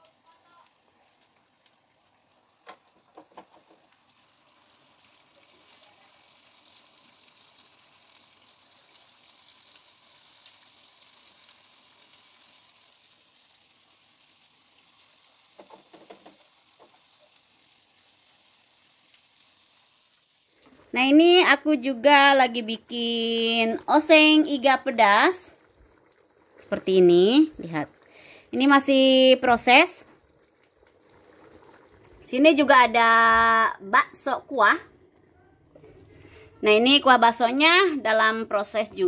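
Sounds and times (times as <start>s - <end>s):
food sizzling in hot oil: 0.0s - 35.0s, 36.6s - 39.0s.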